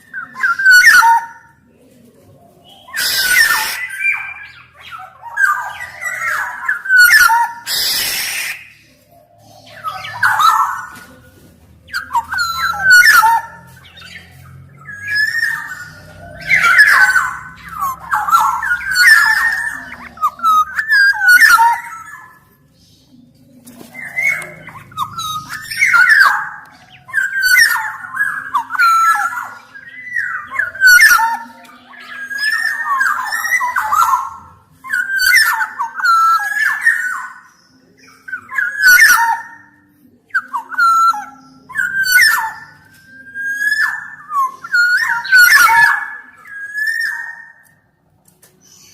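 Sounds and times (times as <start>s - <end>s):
oriole singing fluty whistles: 2.8s - 8.8s, 11.9s - 22.5s, 24.0s - 47.8s.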